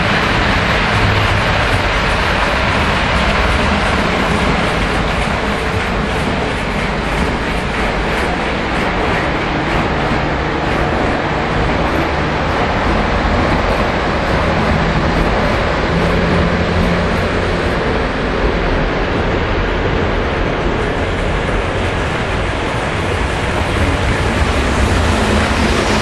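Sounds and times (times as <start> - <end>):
low hum: 0.0 - 26.0
model trains rumbling and whirring: 0.0 - 26.0.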